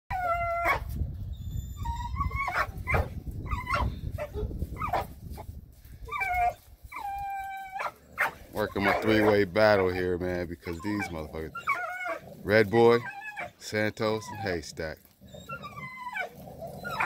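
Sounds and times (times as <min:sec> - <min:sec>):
dogs whining and yipping: 0:00.1 - 0:17.0.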